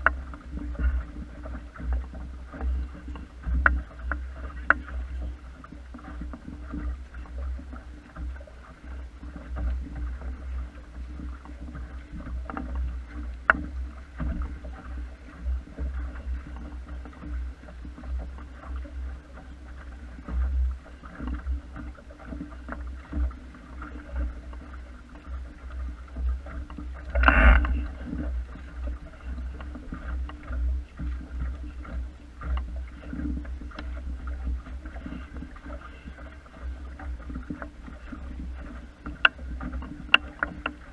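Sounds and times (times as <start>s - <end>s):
water lapping against wooden hull: 0.0s - 40.9s.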